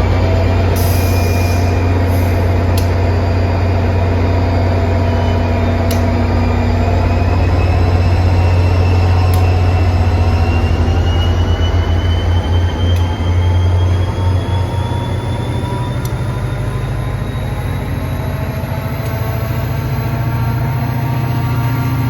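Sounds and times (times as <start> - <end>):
diesel locomotive running: 0.0 - 22.0
rising whine: 0.0 - 22.0.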